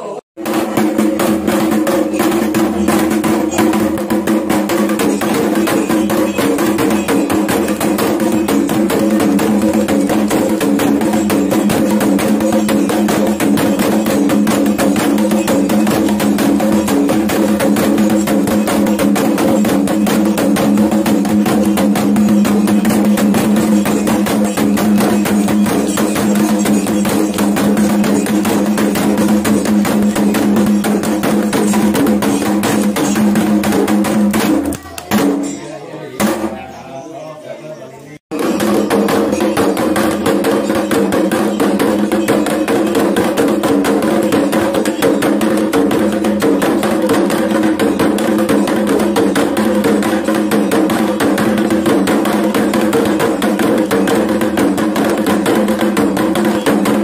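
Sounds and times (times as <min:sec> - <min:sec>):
fast wooden drumming with sticks: 0:00.4 - 0:35.6, 0:38.3 - 0:57.0.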